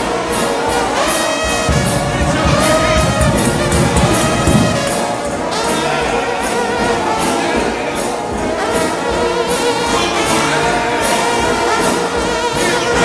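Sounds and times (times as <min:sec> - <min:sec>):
brass band playing gospel: 0:00.0 - 0:13.0
cymbal hits: 0:00.0 - 0:13.0.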